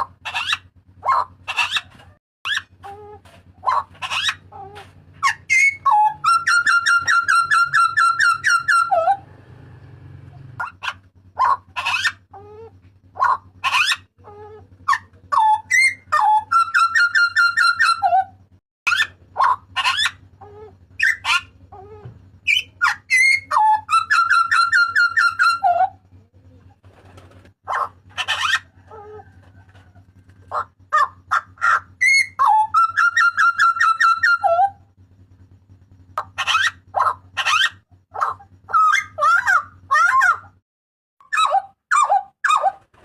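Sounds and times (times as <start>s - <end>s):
faint steady hum: 0.0s - 40.6s.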